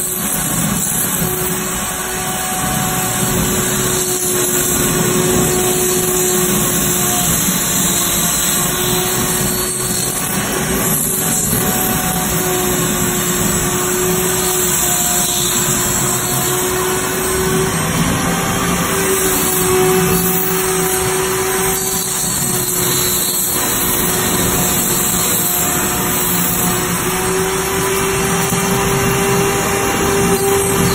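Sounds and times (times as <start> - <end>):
power tool grinding foam: 0.0 - 30.9.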